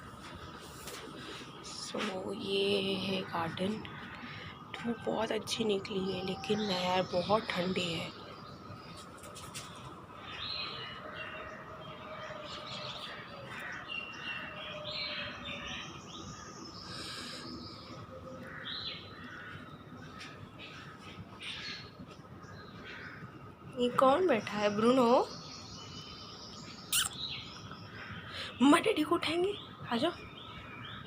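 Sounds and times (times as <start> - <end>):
birds chirping and calling: 0.0 - 31.0.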